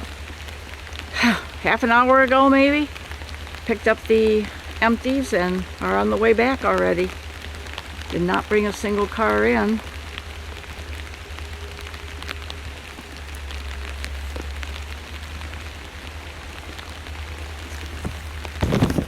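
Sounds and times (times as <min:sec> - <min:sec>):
drops ticking close by: 0:00.0 - 0:18.6
low rumble: 0:00.0 - 0:19.0
steady rain: 0:00.0 - 0:19.0.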